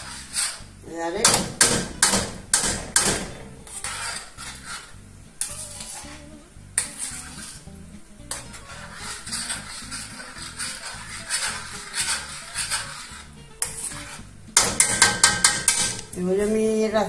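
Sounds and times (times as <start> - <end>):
metal spoon scraping a pot: 0.0 - 16.2
stew simmering with faint sizzle: 0.0 - 17.0.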